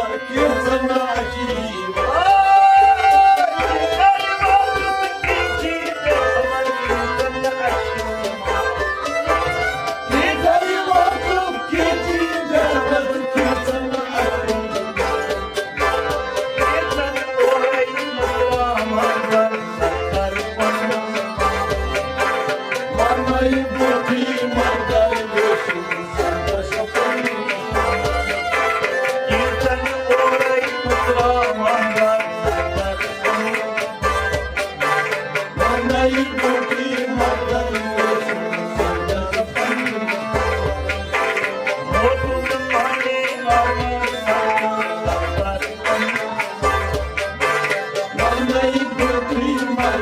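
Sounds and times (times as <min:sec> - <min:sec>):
goblet drum beating: 0:00.0 - 0:50.0
harmonium chords: 0:00.0 - 0:50.0
plucked lutes: 0:00.0 - 0:50.0.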